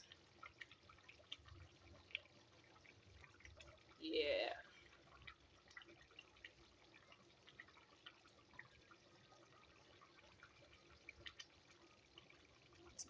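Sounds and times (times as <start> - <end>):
pot of rice bubbling: 0.0 - 13.0.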